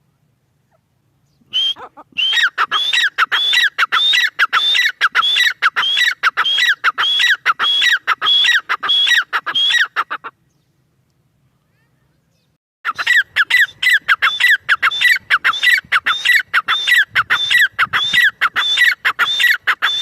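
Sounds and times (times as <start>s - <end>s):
francolin calling: 0.6s - 10.7s, 12.3s - 20.0s.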